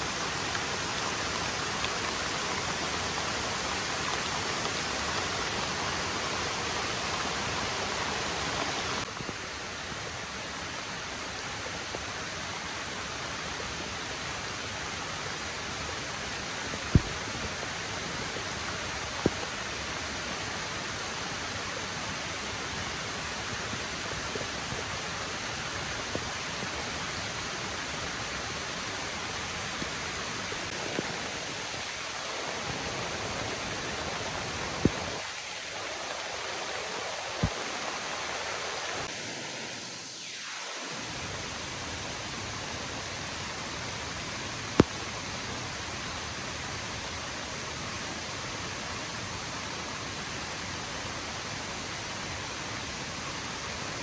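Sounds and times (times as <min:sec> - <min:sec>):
falling water: 0:00.0 - 0:54.0
heavy rain: 0:00.0 - 0:54.0.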